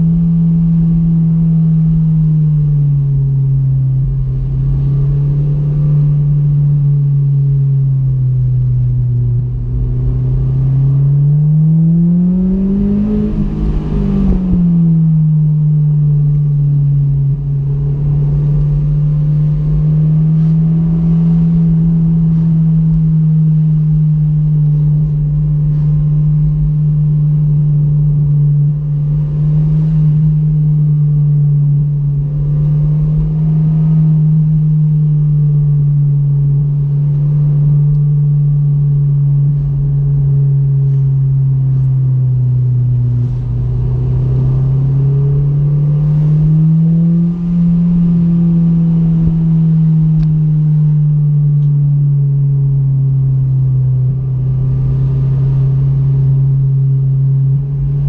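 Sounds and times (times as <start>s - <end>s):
car engine and exhaust: 0.0s - 58.0s
low road rumble: 0.0s - 58.0s.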